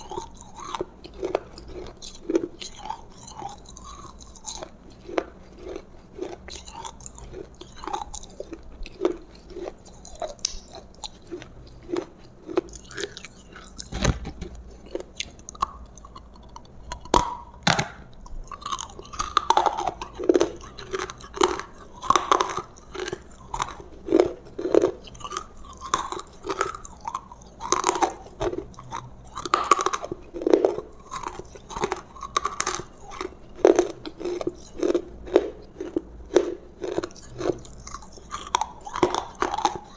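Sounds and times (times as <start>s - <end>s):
chewing crunches: 0.0s - 39.9s.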